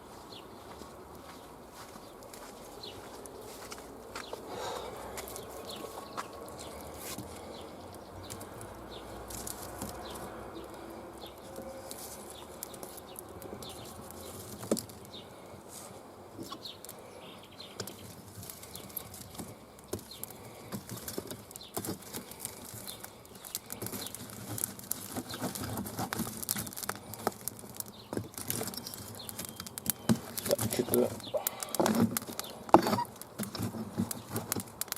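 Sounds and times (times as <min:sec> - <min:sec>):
campfire crackling and popping: 0:02.1 - 0:34.9.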